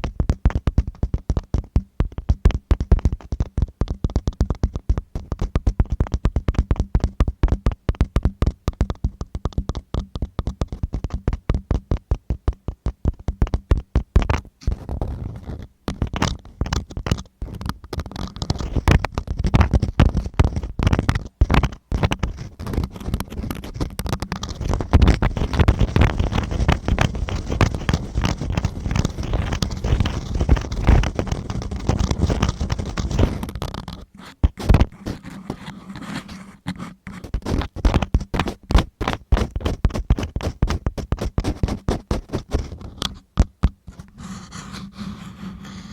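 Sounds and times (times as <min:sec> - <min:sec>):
tool scratching in microphone ear: 0:02.2 - 0:45.9.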